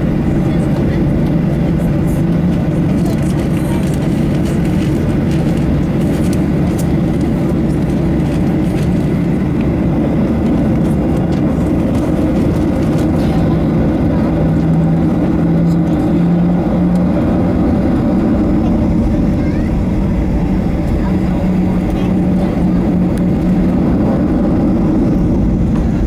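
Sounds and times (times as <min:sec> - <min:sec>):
jet engine rumble in cabin: 0:00.0 - 0:26.0
low hum: 0:00.0 - 0:26.0.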